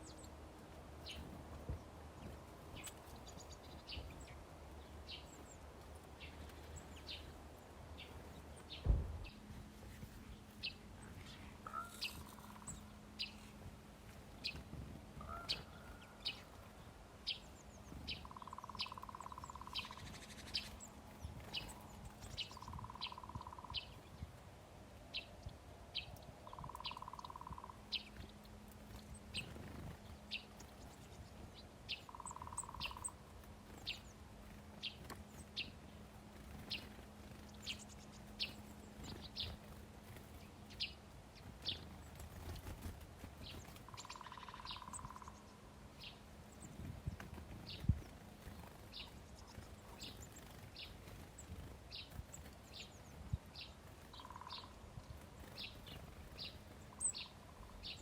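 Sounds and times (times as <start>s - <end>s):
faint steady hum: 0.0s - 58.0s
small birds chirping: 0.0s - 58.0s.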